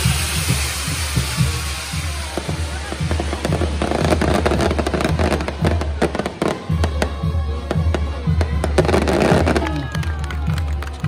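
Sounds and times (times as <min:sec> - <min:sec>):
fireworks whistling: 0:00.0 - 0:10.8
fireworks crackling and popping: 0:00.0 - 0:11.0.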